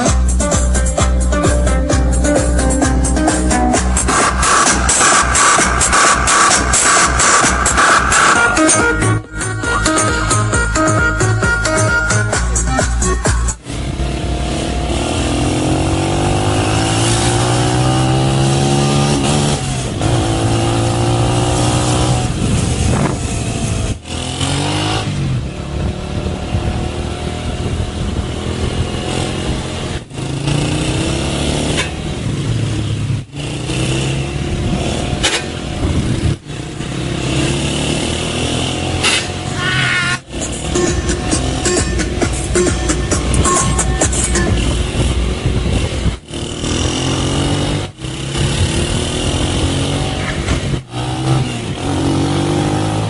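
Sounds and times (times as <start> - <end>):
motorcycle engine revving hard: 2.8 - 9.0, 13.6 - 53.0.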